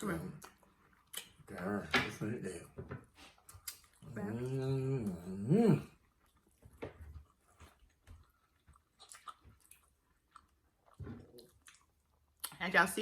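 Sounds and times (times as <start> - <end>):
person chewing: 0.3 - 1.8, 3.1 - 12.6.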